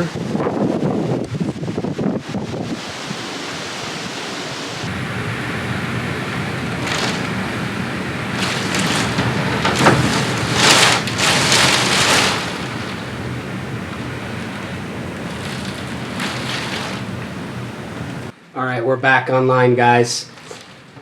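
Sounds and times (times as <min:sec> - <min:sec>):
heavy rain: 0:00.0 - 0:18.3
strong wind gusts: 0:00.0 - 0:18.4.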